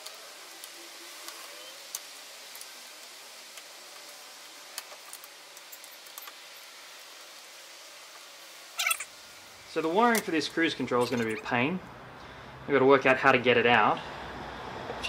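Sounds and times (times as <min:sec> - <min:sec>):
steady low hiss: 0:00.0 - 0:14.8.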